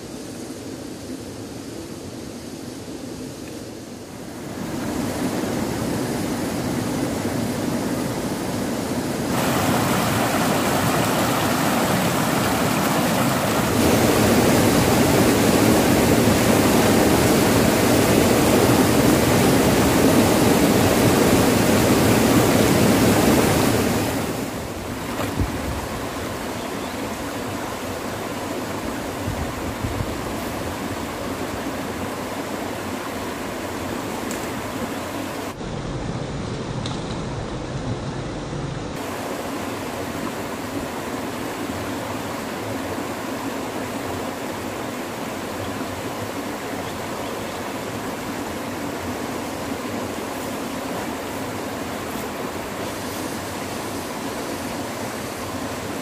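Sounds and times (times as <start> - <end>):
river rushing over rocks: 4.1 - 35.6, 39.0 - 56.0.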